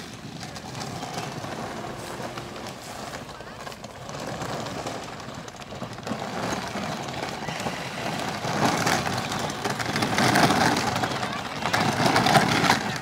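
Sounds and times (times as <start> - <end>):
toy quad motor and wheels: 0.0 - 13.0.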